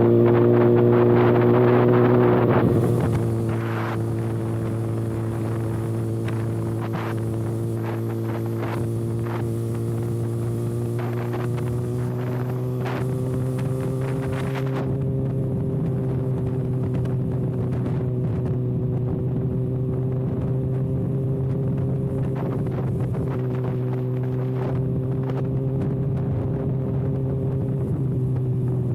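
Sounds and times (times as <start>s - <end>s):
motorcycle engine droning: 0.0s - 28.9s.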